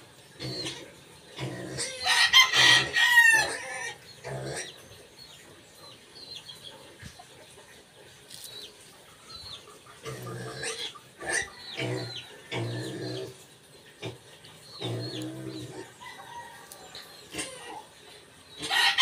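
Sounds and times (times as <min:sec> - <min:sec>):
chickens clucking: 0:00.0 - 0:19.0
chickens peeping: 0:00.2 - 0:19.0.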